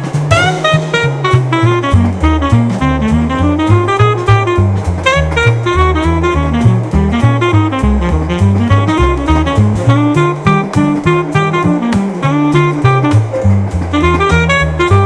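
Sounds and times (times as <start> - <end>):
drum kit beat: 0.0 - 15.0
saxophone melody: 0.0 - 15.0
walking bass line: 0.0 - 15.0.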